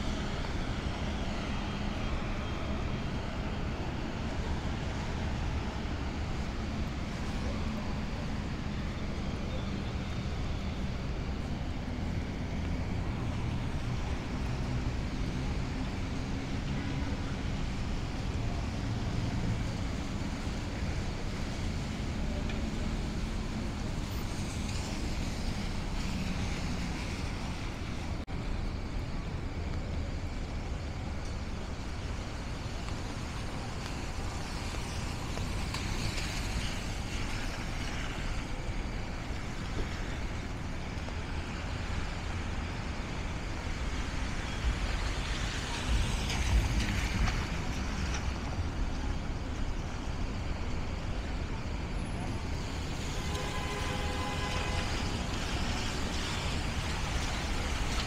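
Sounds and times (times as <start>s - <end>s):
traffic on wet road: 0.0s - 58.0s.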